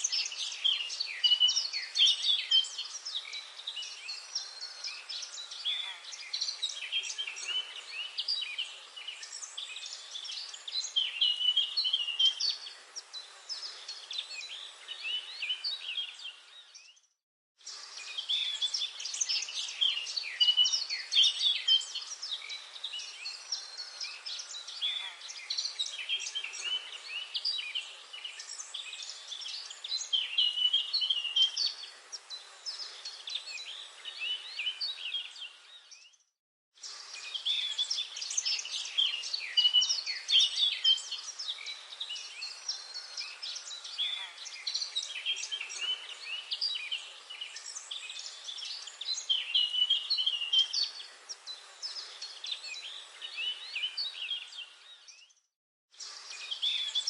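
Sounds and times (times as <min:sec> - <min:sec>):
faint hiss: 0:00.0 - 0:16.7, 0:17.6 - 0:35.9, 0:36.8 - 0:54.9, 0:56.0 - 0:57.0
birds chirping and trilling: 0:00.0 - 0:57.0.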